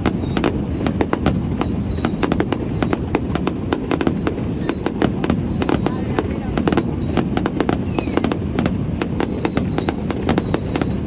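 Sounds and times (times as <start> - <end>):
fireworks bangs and crackles: 0.0 - 11.0
thin high whistle: 0.0 - 11.0.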